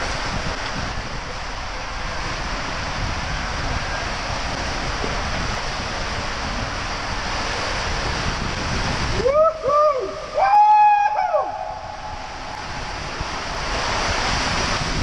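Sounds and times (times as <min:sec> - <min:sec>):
water rushing through slide tube: 0:00.0 - 0:15.0.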